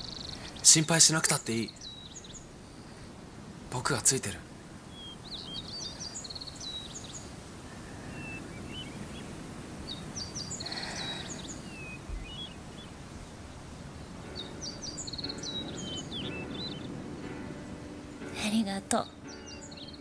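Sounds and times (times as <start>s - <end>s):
outdoor background noise: 0.0s - 20.0s
songbird chirps and trill: 0.0s - 20.0s.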